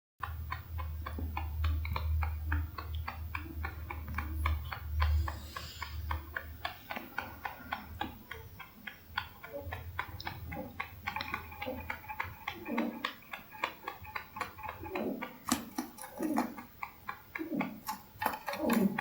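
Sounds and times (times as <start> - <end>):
rabbit chewing hay: 0.2 - 19.0
rabbit snoring: 0.6 - 19.0.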